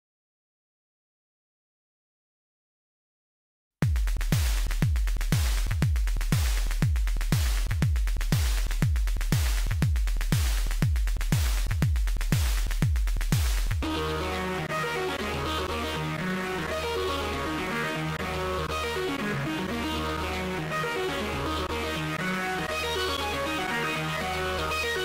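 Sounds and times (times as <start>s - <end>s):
electronic music with kick drum: 3.8s - 25.0s.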